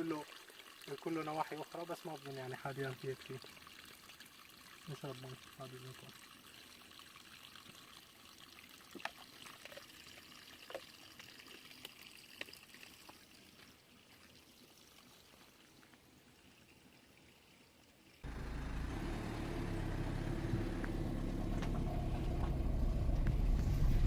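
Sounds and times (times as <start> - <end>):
spring water trickling: 0.0 - 23.4.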